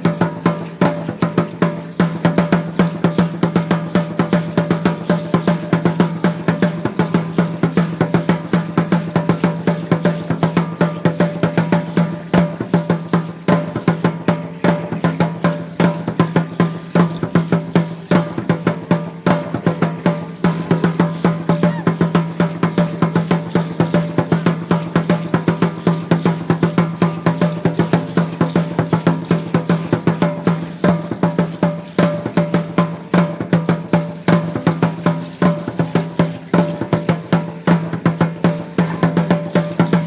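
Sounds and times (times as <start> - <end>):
fast drumming: 0.0 - 40.0.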